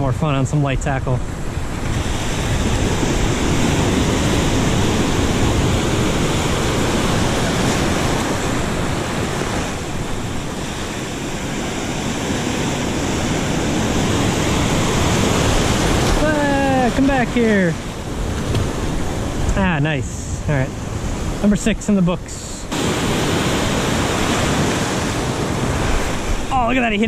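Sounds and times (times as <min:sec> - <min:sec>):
surf breaking over rocks: 0:00.0 - 0:27.0.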